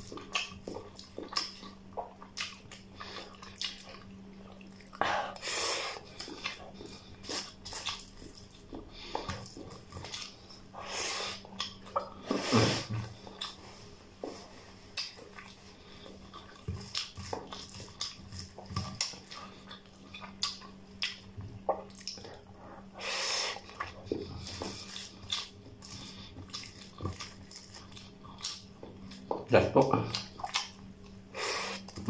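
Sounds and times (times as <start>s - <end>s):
wet chewing and lip-smacking: 0.0s - 10.7s, 11.3s - 12.2s, 13.0s - 13.7s, 14.8s - 22.6s, 23.5s - 29.3s, 30.1s - 32.0s
faint steady hum: 0.0s - 32.0s.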